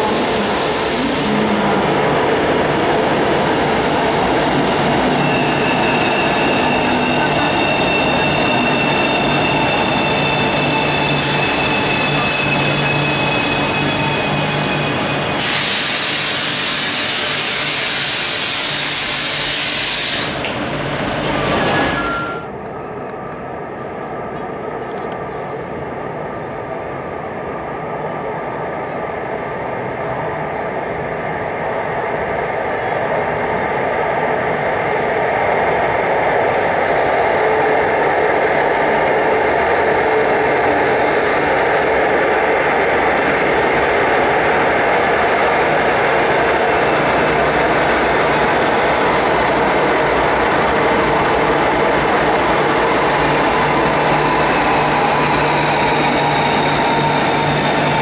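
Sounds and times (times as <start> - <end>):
electric train in tunnel: 0.0 - 58.0.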